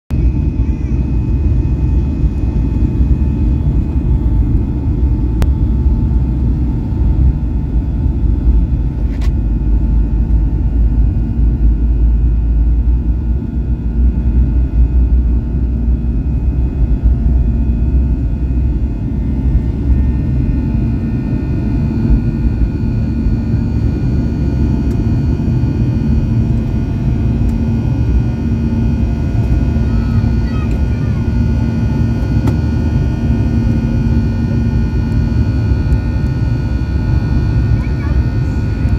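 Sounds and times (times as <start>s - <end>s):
jet engines rumbling: 0.1s - 38.9s.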